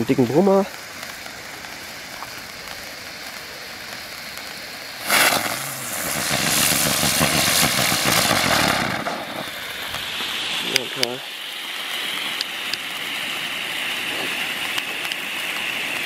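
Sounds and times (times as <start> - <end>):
firework fountains hissing: 0.0 - 16.0
firework spinner buzzing: 0.0 - 16.0.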